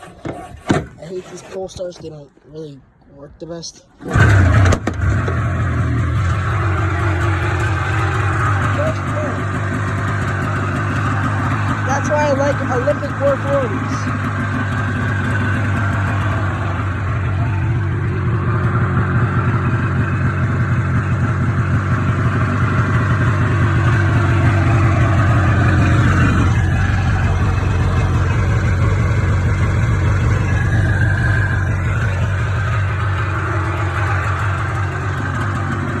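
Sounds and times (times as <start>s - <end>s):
snowmobile engine running: 4.1s - 36.0s.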